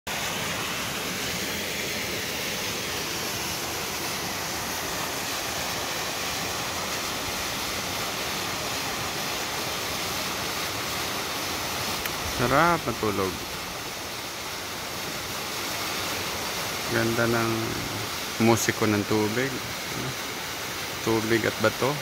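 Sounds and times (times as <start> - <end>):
waterfall rushing: 0.1 - 22.0.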